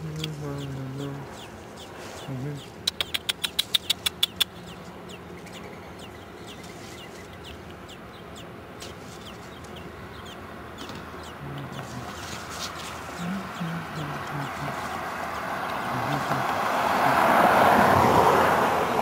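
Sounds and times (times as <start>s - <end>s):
baby birds cheeping: 0.0s - 17.2s.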